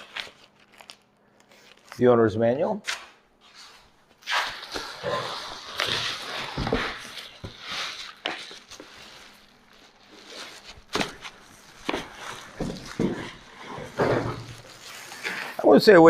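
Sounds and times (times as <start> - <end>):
packaging rustling: 0.0 - 2.0, 4.6 - 15.6.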